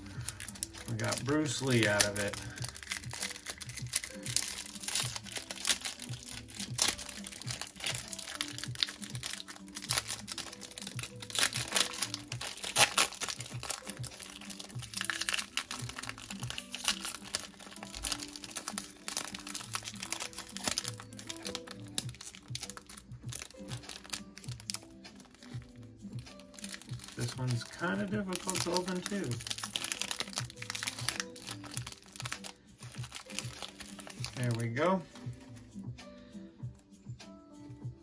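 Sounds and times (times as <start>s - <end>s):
foil wrapper crinkling: 0.0s - 34.8s
background music: 0.0s - 38.0s.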